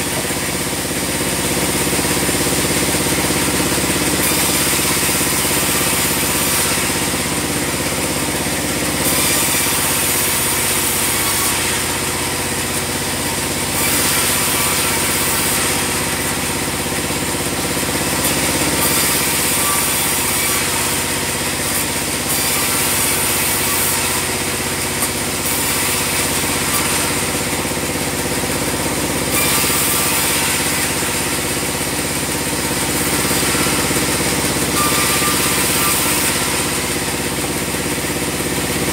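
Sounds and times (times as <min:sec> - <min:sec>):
band saw humming: 0:00.0 - 0:38.9.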